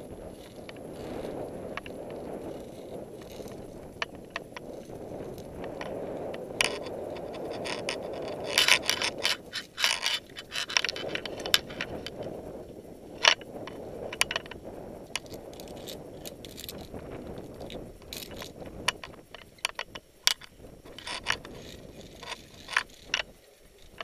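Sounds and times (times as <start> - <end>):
steady rushing noise: 0.0 - 24.0
climbing gear clinking on steel cable: 0.2 - 24.0.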